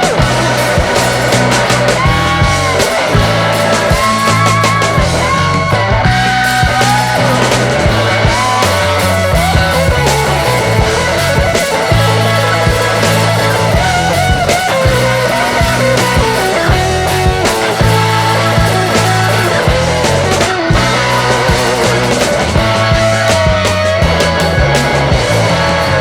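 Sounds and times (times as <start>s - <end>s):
bass line: 0.0s - 26.0s
electric guitar: 0.0s - 26.0s
rock music: 0.0s - 26.0s.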